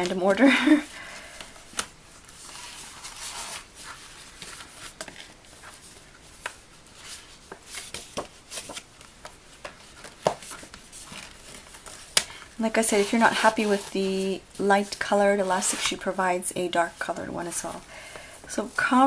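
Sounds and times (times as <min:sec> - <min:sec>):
paper rustling and rubbing: 0:01.2 - 0:17.8.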